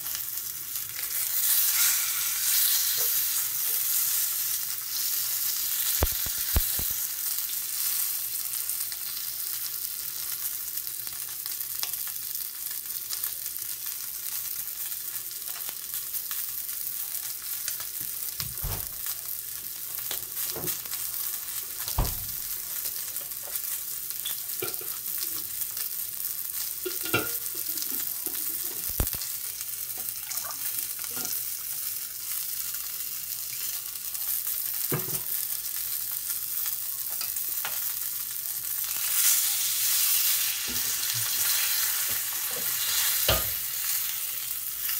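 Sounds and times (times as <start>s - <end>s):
steak sizzling in a skillet: 0.0s - 44.9s.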